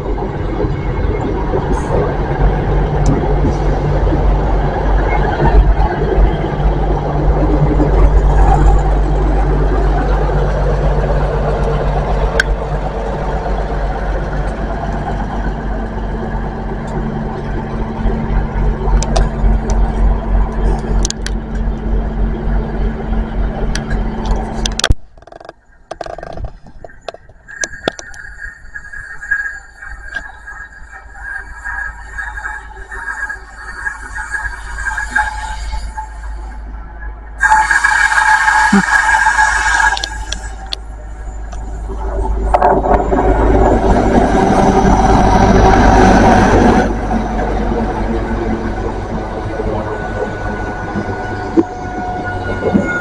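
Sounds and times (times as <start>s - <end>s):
diesel train engine humming: 0.0s - 53.0s
wheel and rail noise: 0.0s - 53.0s.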